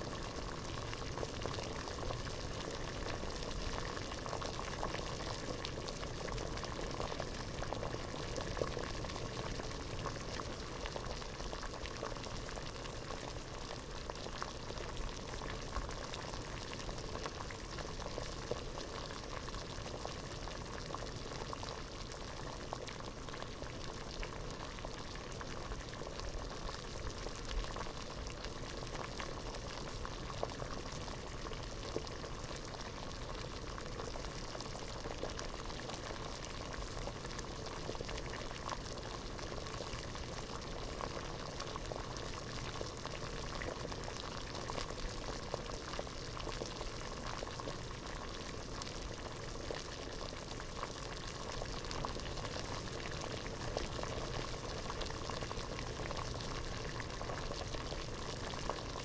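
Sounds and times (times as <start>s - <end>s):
water boiling in a pot: 0.0s - 59.0s.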